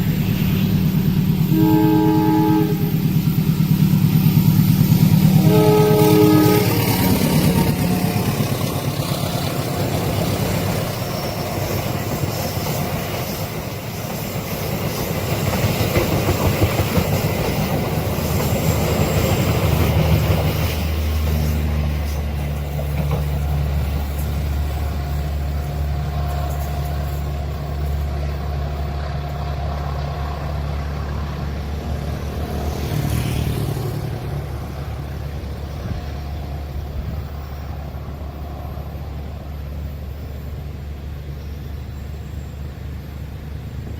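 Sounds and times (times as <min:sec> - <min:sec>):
train wheels rumbling over rails: 0:00.0 - 0:43.9.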